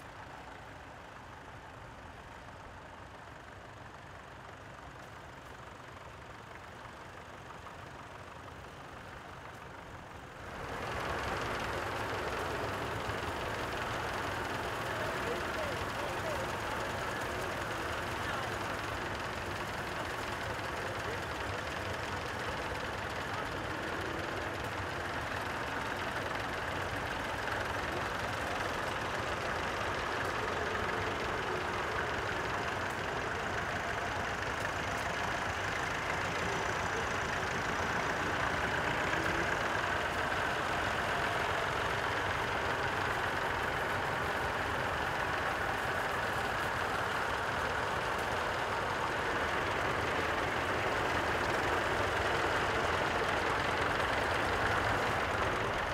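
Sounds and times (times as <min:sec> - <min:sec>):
tractor engines running: 0:00.0 - 0:55.9.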